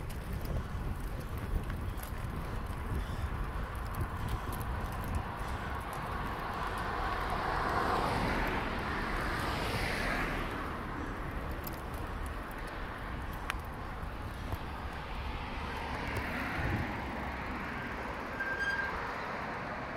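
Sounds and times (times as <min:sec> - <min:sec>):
vehicles passing: 0:00.0 - 0:19.9.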